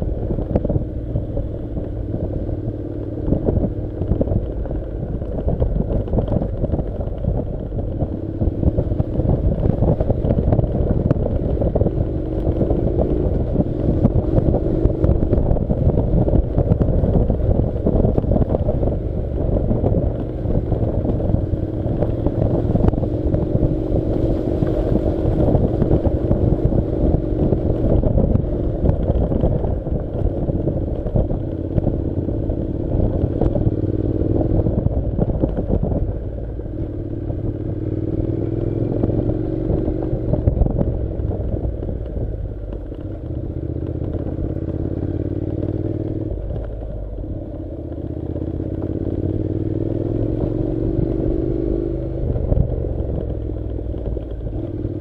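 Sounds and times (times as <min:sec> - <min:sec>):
motorcycle engine running: 0:00.0 - 0:55.0
wind on microphone: 0:00.0 - 0:55.0
gravel clattering under tyres: 0:00.2 - 0:36.8, 0:39.8 - 0:50.6, 0:51.8 - 0:55.0.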